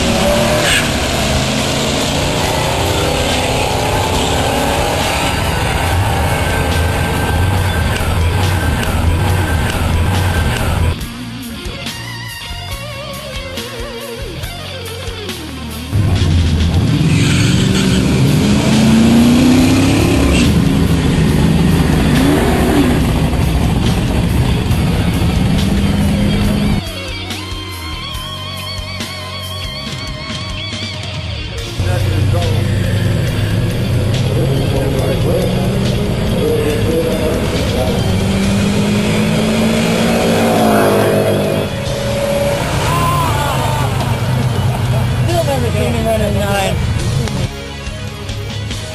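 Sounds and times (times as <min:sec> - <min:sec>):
drag car engine accelerating: 0:00.0 - 0:12.1, 0:12.8 - 0:26.9, 0:29.2 - 0:47.7.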